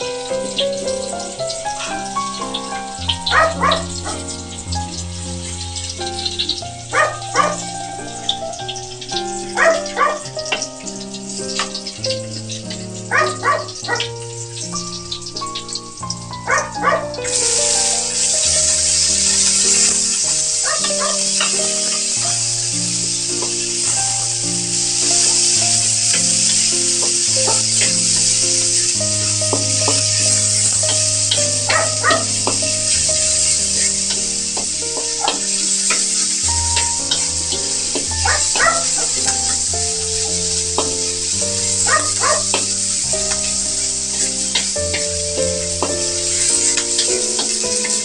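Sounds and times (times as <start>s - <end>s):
background music: 0.0s - 48.0s
onions sizzling in oil: 0.0s - 48.0s.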